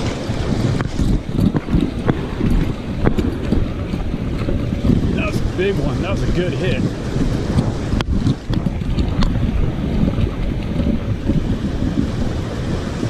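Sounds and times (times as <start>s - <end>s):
ocean surf rumble: 0.0s - 13.0s
wind buffeting microphone: 0.0s - 13.0s.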